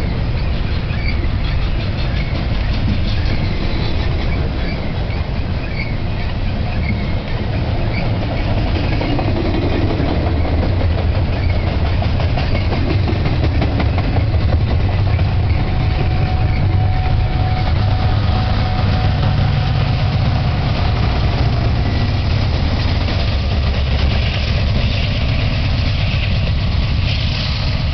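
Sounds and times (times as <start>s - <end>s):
diesel locomotive engine rumble: 0.0s - 27.9s
train wheels clattering: 0.0s - 27.9s.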